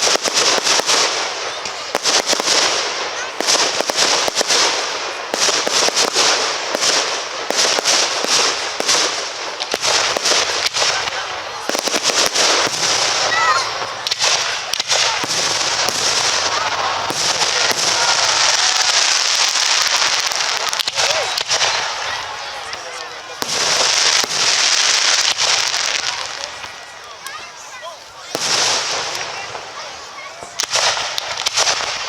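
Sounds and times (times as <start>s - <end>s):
fireworks bangs and pops: 0.0s - 32.0s
fireworks crackling: 0.0s - 32.0s.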